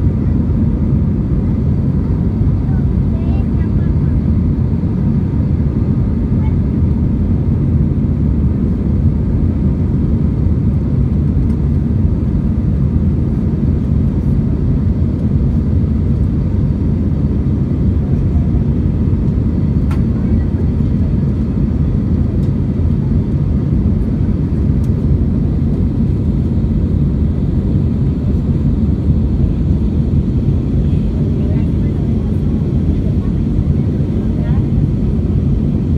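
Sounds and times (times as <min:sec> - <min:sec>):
jet engines roaring in cabin: 0:00.0 - 0:35.9.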